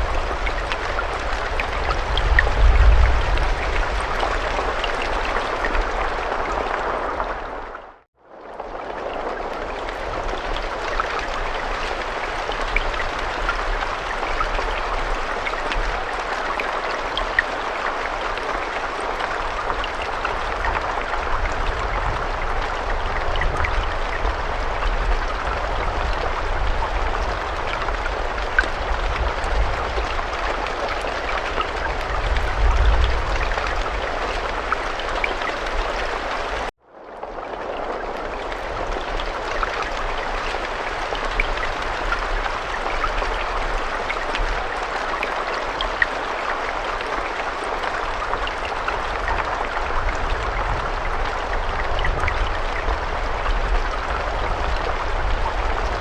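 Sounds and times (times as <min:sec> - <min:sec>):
raindrops ticking: 0:00.0 - 0:07.8, 0:08.5 - 0:56.0
steady rainfall: 0:00.0 - 0:56.0.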